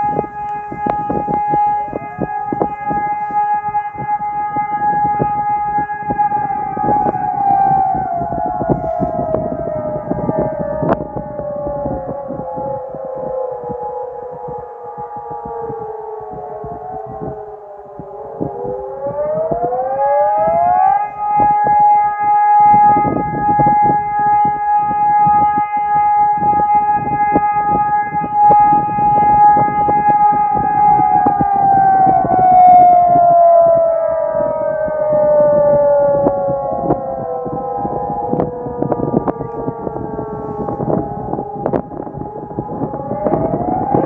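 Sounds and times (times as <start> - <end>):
civil defence siren: 0.0 - 44.0
second siren tone: 0.0 - 44.0.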